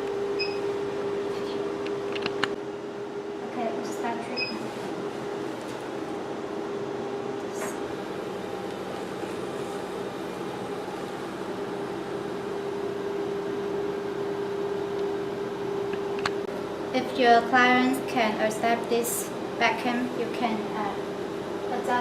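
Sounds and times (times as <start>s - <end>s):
machine humming with held tone: 0.0s - 22.0s.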